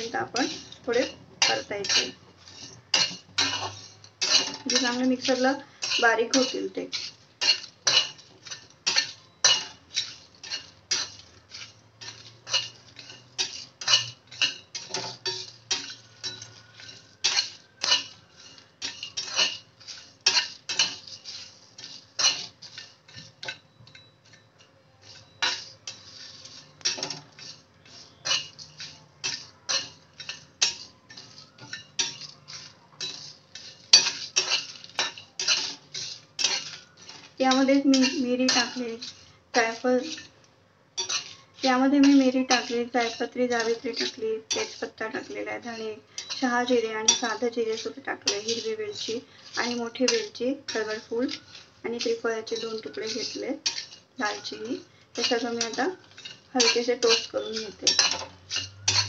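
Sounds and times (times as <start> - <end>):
metal spatula scraping metal pan: 0.0 - 40.4, 41.0 - 59.0
dry spices rattling in pan: 0.0 - 59.0.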